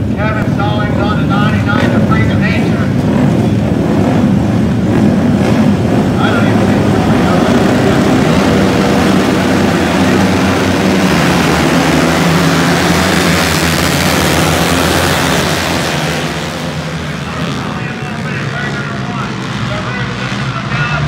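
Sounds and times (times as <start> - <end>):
motorcycles revving and accelerating: 0.0 - 21.0.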